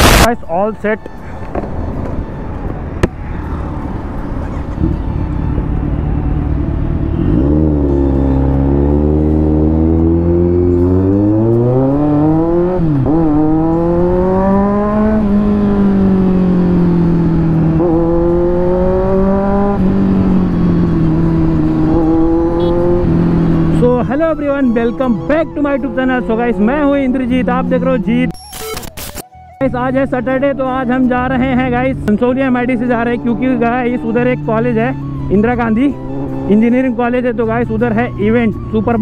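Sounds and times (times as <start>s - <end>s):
wind and road rumble: 0.0s - 39.0s
motorcycle engine accelerating: 1.4s - 28.3s, 31.2s - 39.0s.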